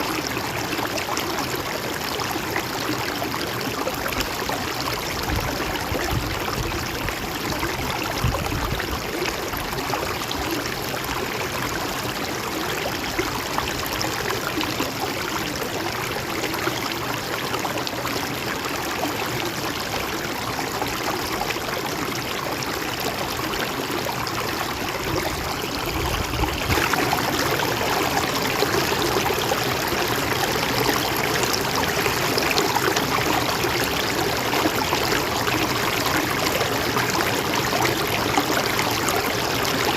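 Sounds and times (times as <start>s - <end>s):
stream water splashing over rocks: 0.0s - 39.9s.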